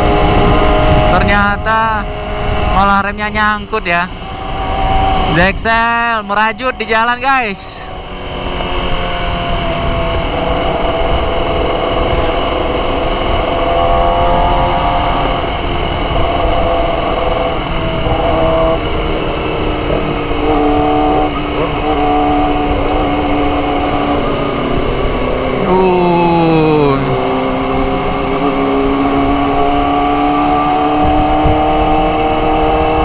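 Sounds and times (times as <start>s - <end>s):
wind rumble on microphone: 0.0s - 25.7s, 27.2s - 33.0s
motorcycle engines running: 0.0s - 33.0s.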